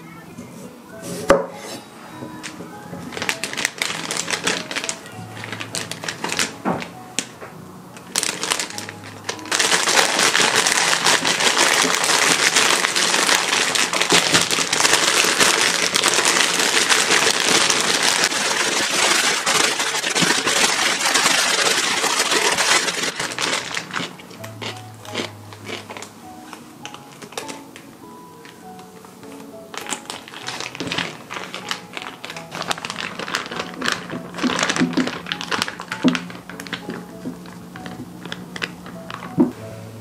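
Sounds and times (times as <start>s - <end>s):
soft background music: 0.0s - 40.0s
plastic bag crinkling: 2.3s - 7.4s, 8.0s - 39.6s.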